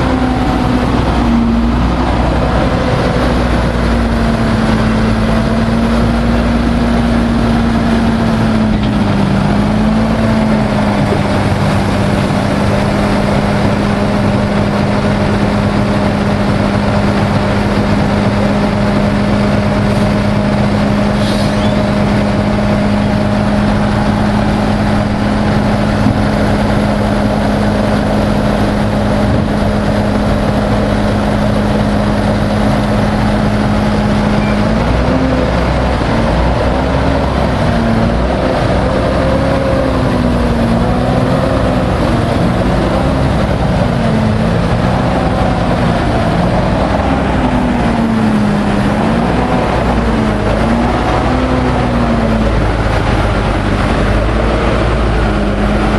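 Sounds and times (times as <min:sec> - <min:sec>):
truck diesel engine revving: 0:00.0 - 0:55.9.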